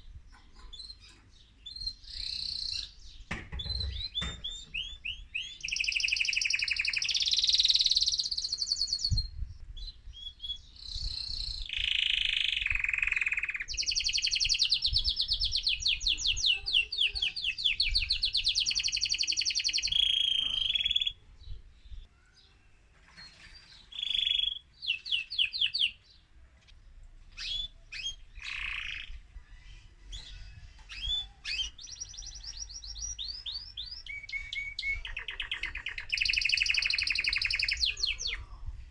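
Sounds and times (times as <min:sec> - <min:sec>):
canary singing trills: 0:00.0 - 0:22.6, 0:23.4 - 0:38.9.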